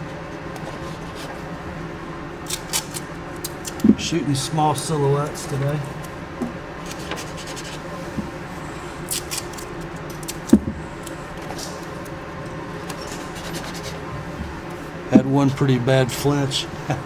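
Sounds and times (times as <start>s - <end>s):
rubbing and scraping handling noise: 0.0s - 6.1s, 6.8s - 17.0s.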